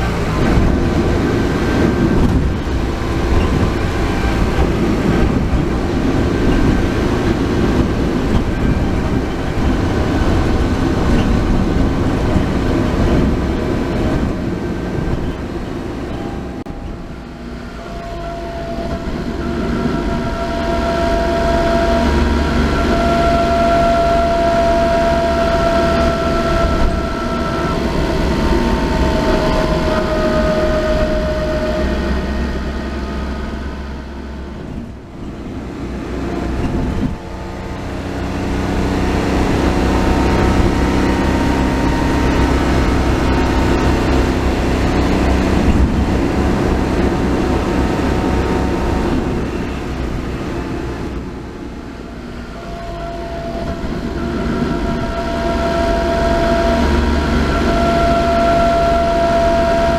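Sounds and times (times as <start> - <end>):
car engine and road rumble: 0.0 - 59.9
transmission whine: 0.0 - 59.9.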